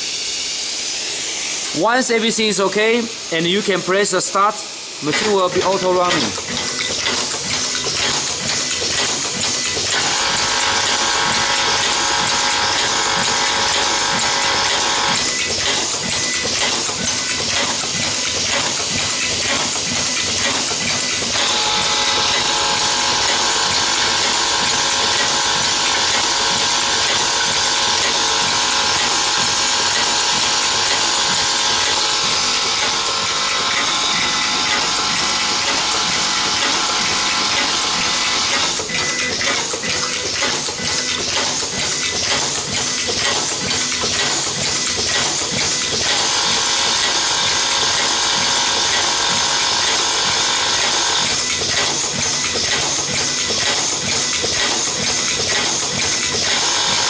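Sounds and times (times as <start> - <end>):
machine buzzing: 0.0 - 57.0
machine clicking and clatter: 5.0 - 57.0.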